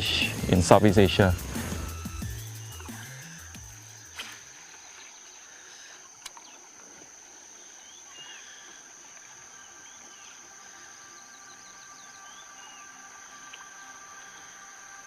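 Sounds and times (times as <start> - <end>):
bird chirps: 0.0 - 6.7, 7.5 - 15.0
high-pitched insect drone: 0.0 - 15.0.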